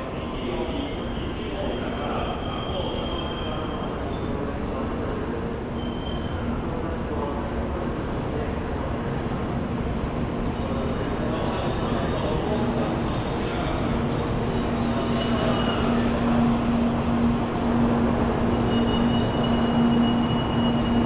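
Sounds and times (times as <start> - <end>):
train rumbling past platform: 0.0 - 21.0.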